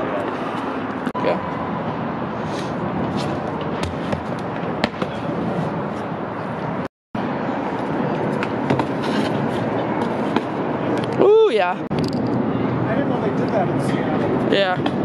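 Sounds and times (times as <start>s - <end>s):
city traffic roar: 0.0s - 15.0s.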